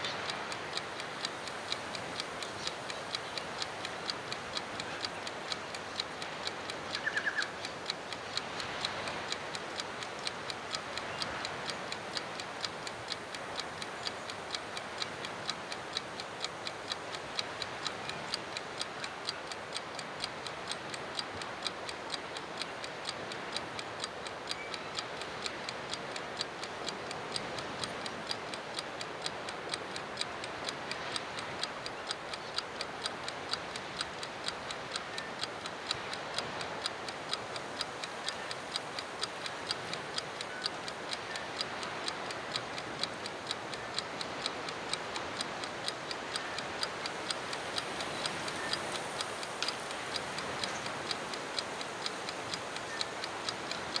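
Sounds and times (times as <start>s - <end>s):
clockwork timer ticking rapidly: 0.0s - 54.0s
steady background hiss: 0.0s - 54.0s.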